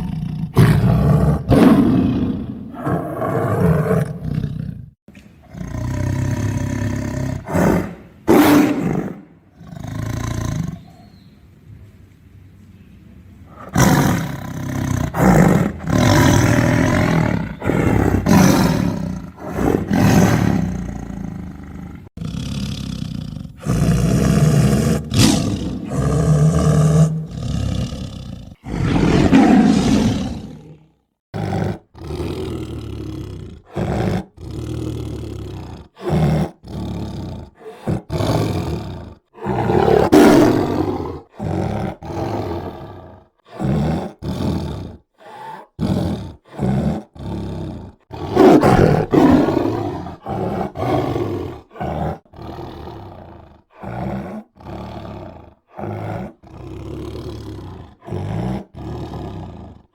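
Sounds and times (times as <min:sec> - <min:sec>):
tiger roaring and growling: 0:00.0 - 0:11.1, 0:13.5 - 0:59.9.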